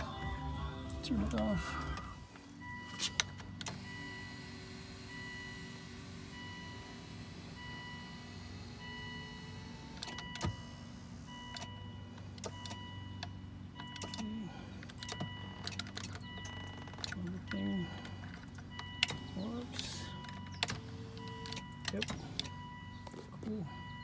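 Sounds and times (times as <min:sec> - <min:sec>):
car warning chime beeping: 0:00.0 - 0:24.0
seat motors whirring: 0:00.0 - 0:24.0.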